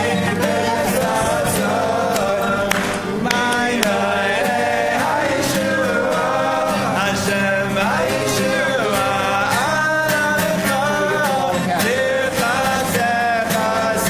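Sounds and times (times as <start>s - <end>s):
group of voices singing: 0.0s - 14.0s
strummed acoustic guitar: 0.0s - 14.0s.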